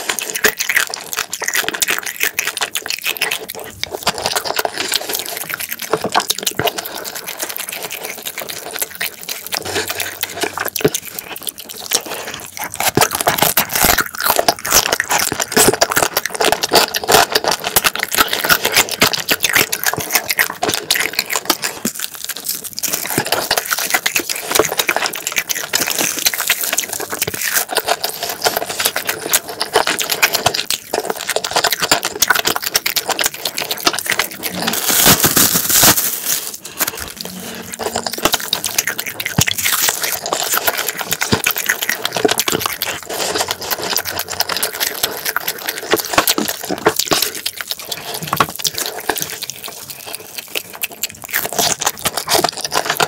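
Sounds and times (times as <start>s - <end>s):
wet chewing mouth sounds: 0.0s - 53.0s.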